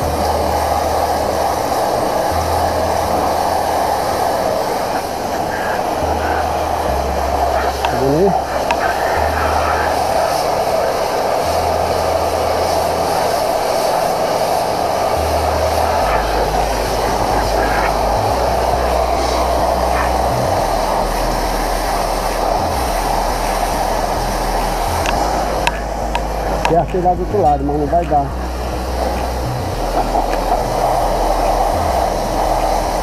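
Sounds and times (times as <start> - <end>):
pressure washer spray hiss: 0.0 - 33.0
washer motor hum: 0.0 - 33.0.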